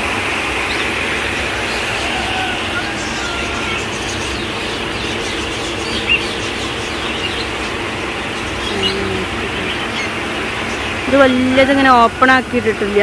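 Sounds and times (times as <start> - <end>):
birds chirping: 0.0 - 13.0
steady rushing noise: 0.0 - 13.0.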